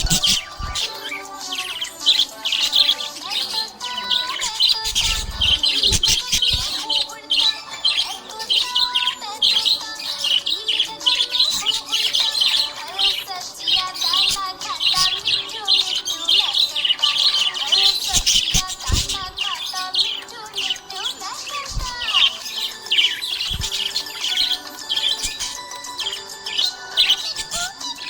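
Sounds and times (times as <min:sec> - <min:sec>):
budgerigars chirping: 0:00.0 - 0:28.0.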